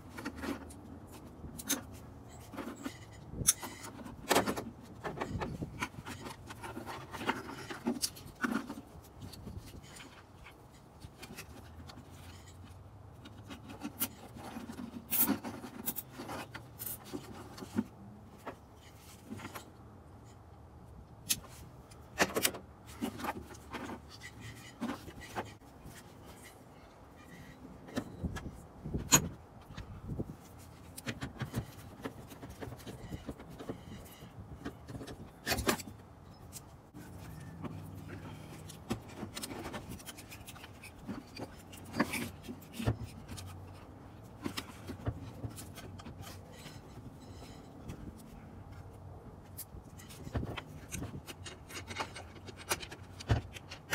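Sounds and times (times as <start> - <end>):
hands handling wiring and parts: 0.0 - 53.9.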